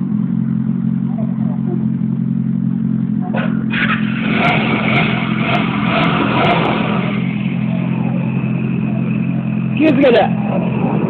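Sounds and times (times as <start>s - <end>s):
motorcycle engines idling: 0.0s - 11.0s
rough high-pitched engine sound: 0.0s - 11.0s.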